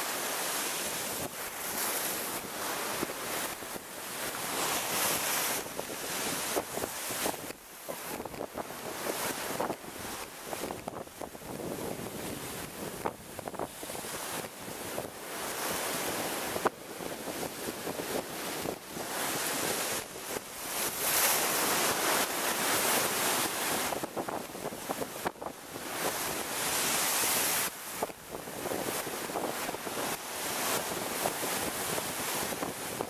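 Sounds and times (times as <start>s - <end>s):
sea waves crashing on wall: 0.0s - 33.0s.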